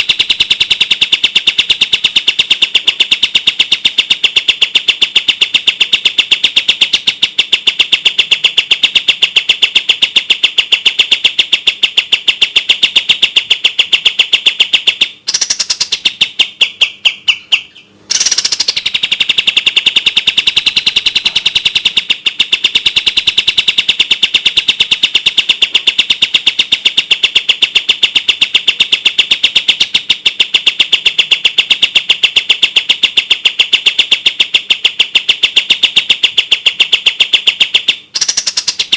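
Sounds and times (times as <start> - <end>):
bird song rapid high notes: 0.0 - 34.8, 35.4 - 38.9.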